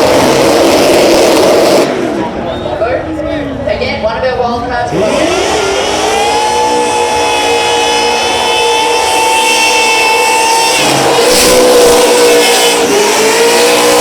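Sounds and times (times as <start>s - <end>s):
car engine revving: 0.0s - 2.8s, 4.8s - 14.0s
supercharger whine: 0.0s - 14.0s.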